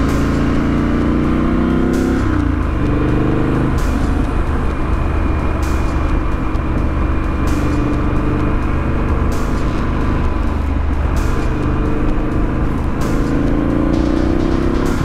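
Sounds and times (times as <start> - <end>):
motorcycle engine cruising: 0.0 - 15.0
rushing noise: 0.0 - 15.0.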